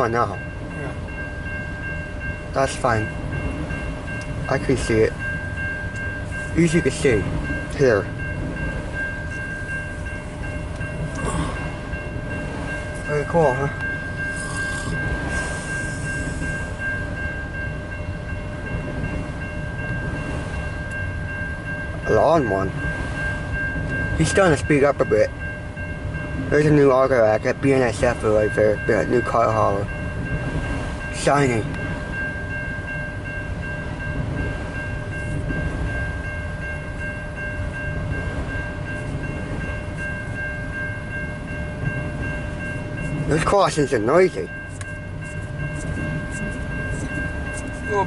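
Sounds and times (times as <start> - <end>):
crossing warning bell ringing: 0.0 - 48.0
freight train rolling rumble: 0.0 - 48.0.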